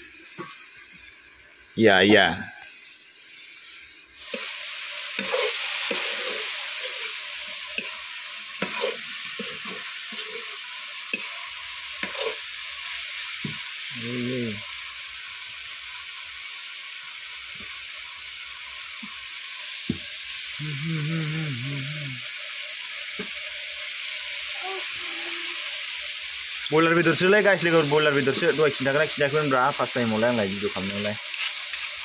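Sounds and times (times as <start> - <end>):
firewood crackling and hissing: 0.0 - 32.0.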